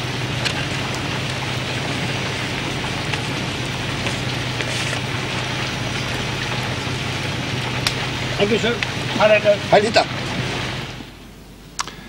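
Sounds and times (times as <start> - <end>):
car engine idling: 0.0 - 11.4
rain hissing: 0.0 - 12.0
raindrops ticking: 0.0 - 12.0.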